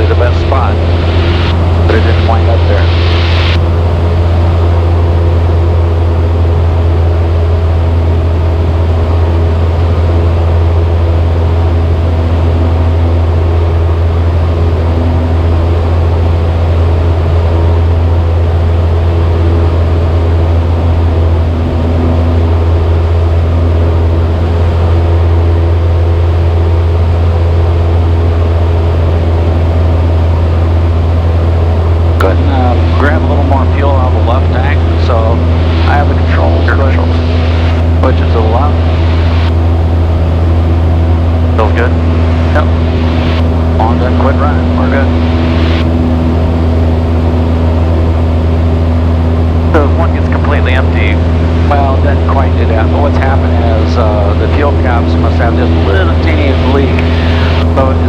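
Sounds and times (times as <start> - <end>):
aircraft engine droning: 0.0 - 58.0.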